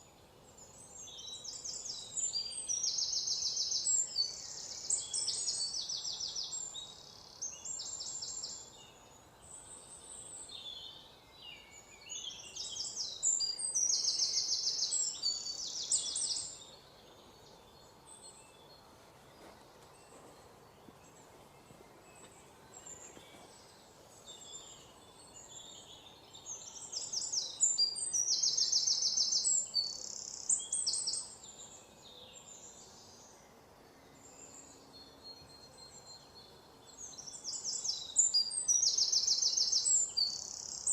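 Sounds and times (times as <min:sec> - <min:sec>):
bird chirps: 0:00.0 - 0:40.9
faint steady hiss: 0:00.0 - 0:40.9
songbird trills: 0:00.0 - 0:40.9.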